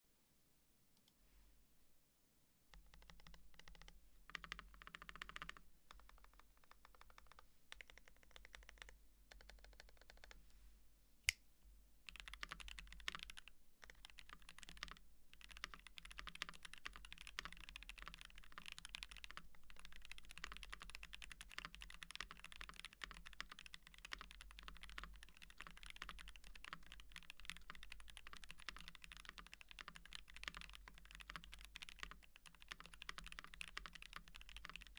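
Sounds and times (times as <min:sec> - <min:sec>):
typing on mechanical keyboard: 0:02.8 - 0:10.4, 0:12.1 - 0:34.9.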